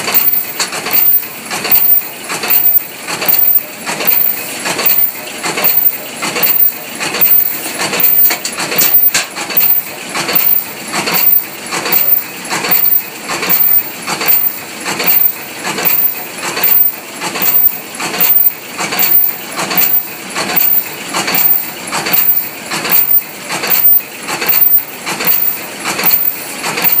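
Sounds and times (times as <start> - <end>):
machine clattering metallically: 0.0 - 27.0.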